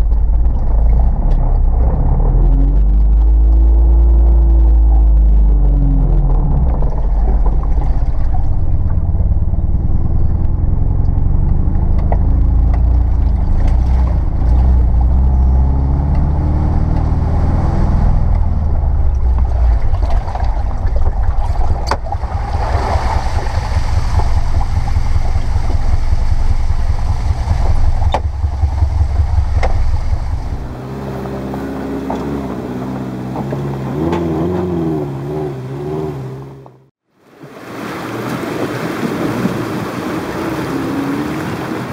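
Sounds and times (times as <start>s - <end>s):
rough car engine chugging: 0.0s - 37.0s.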